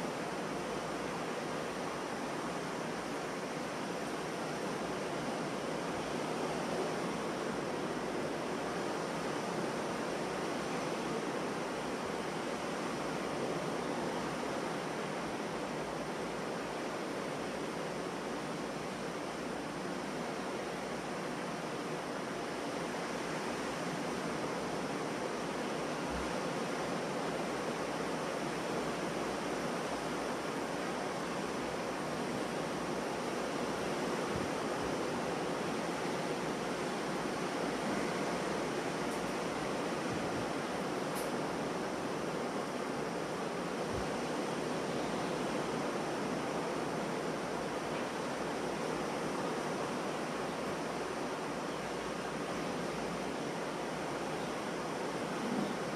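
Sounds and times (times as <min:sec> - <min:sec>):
ocean surf breaking on a beach: 0:00.0 - 0:55.9.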